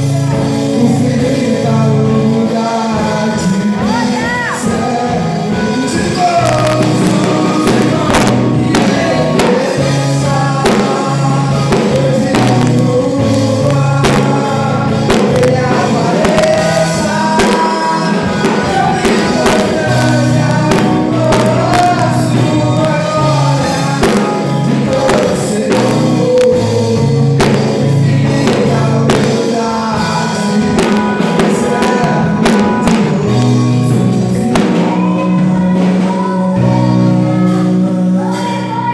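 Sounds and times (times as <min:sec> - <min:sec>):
gospel singing with band: 0:00.0 - 0:38.9.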